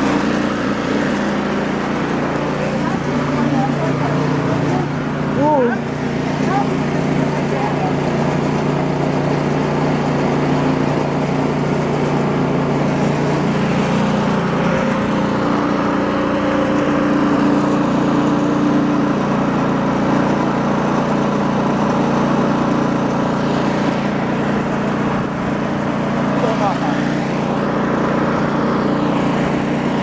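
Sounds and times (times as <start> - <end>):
gasoline engine running: 0.0 - 30.0.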